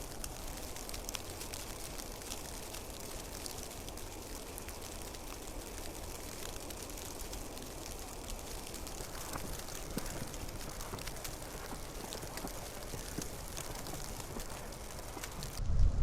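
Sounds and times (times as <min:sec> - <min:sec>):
hiss of falling snow: 0:00.0 - 0:15.6
small irregular ticks: 0:00.0 - 0:15.6.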